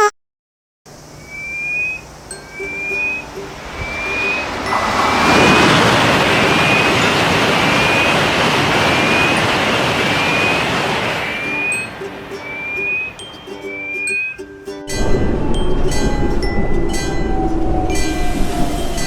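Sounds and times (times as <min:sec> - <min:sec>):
railroad crossing alarm: 0:01.2 - 0:19.0
train rushing past: 0:02.2 - 0:14.1, 0:14.9 - 0:19.0.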